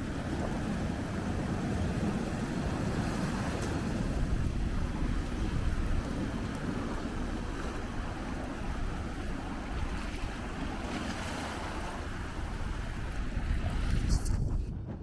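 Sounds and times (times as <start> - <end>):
ocean waves breaking on rocks: 0.0 - 14.1
wind buffeting microphone: 0.0 - 15.0.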